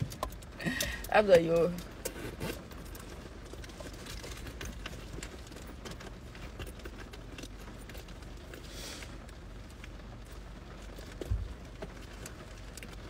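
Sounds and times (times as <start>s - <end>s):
car interior rumble: 0.0s - 13.0s
faint irregular clicks: 0.0s - 13.0s.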